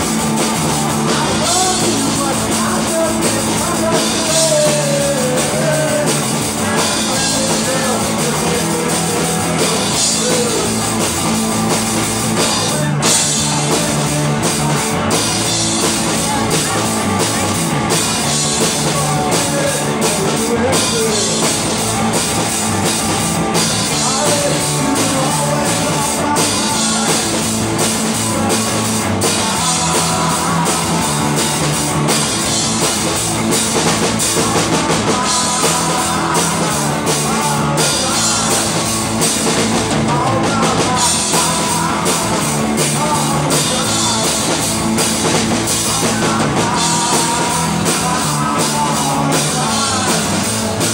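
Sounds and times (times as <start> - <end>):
drum kit: 0.0 - 50.9
guitar: 0.0 - 50.9
person singing: 0.0 - 50.9.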